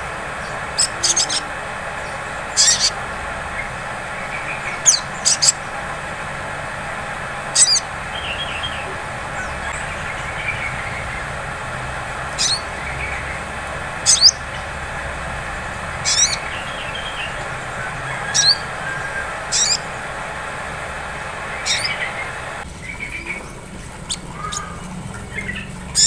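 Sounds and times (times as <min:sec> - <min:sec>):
soft bird twittering: 0:00.0 - 0:05.9, 0:07.4 - 0:26.0
bird chirping: 0:00.4 - 0:05.8, 0:07.5 - 0:26.0.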